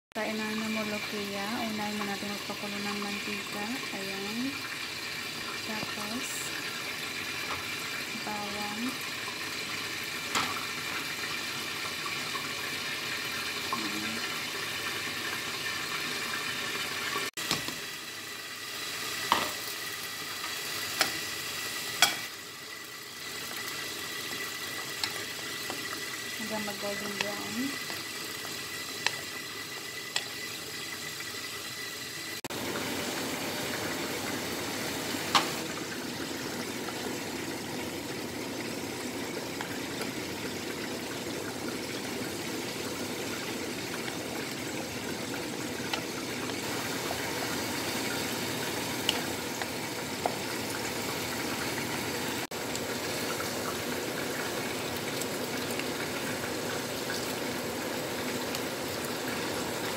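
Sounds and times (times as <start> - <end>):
onions frying in oil: 0.2 - 59.9
sauce sizzling and bubbling: 0.2 - 59.9.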